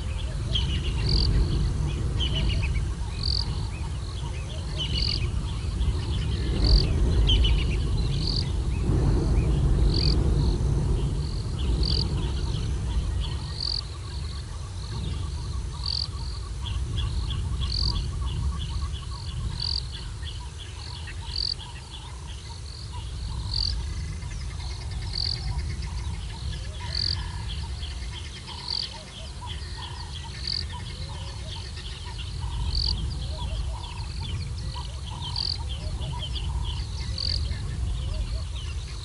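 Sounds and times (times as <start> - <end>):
birds and insects chirping: 0.0 - 39.0.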